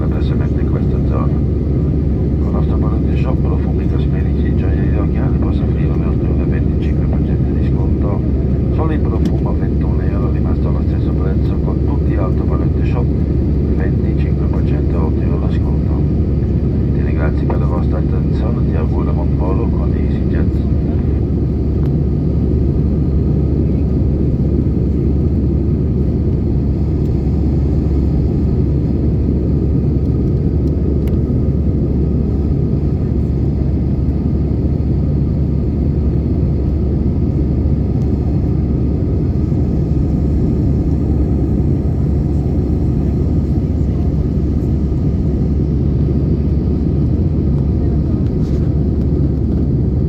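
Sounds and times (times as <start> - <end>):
jet cabin engine rumble: 0.0 - 50.0.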